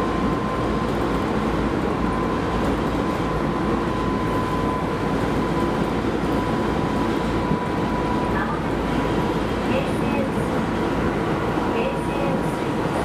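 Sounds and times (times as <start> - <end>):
steady high whine: 0.0 - 13.0
train wheels rumbling on rail: 0.0 - 13.0.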